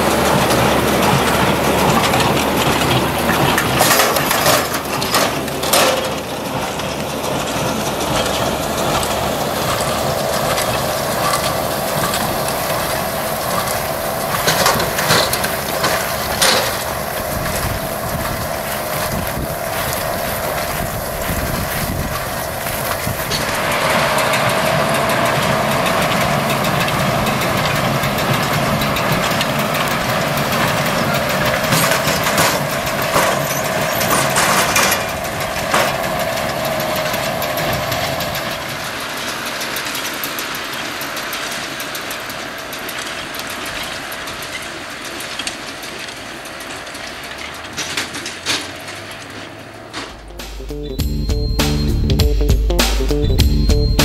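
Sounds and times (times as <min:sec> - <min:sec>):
baler mechanism clanks: 0:00.0 - 0:54.0
tractor machine hum: 0:00.0 - 0:54.0.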